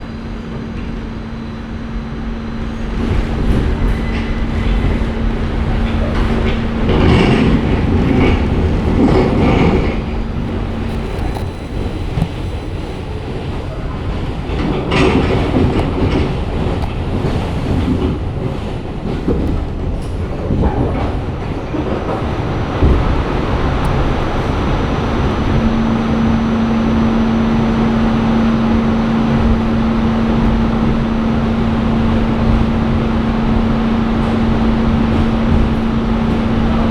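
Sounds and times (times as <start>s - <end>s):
train rattling: 0.0s - 36.9s
train wheels clacking on rails: 0.4s - 36.9s.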